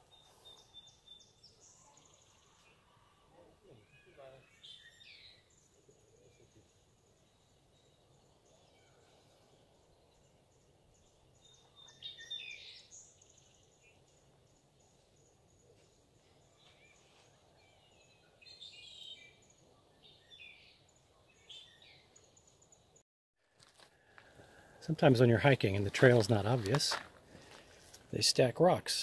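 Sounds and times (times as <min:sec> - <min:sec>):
birds chirping: 0:00.0 - 0:23.0, 0:24.0 - 0:29.0
faint outdoor hiss: 0:00.0 - 0:23.0, 0:23.7 - 0:29.0.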